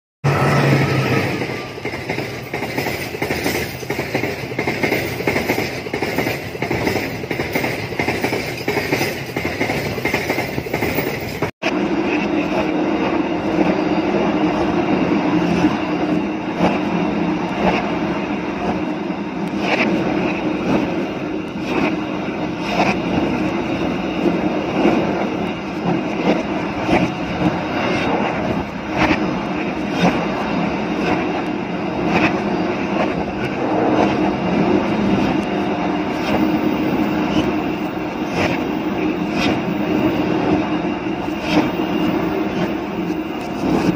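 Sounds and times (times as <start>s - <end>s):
moving train rumble: 0.2s - 43.9s
train wheels clattering on rails: 0.3s - 43.9s.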